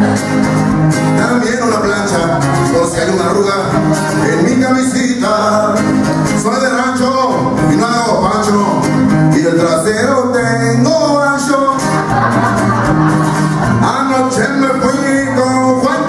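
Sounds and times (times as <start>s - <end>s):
acoustic guitar strumming: 0.0s - 16.0s
man singing: 1.0s - 12.3s, 13.6s - 16.0s.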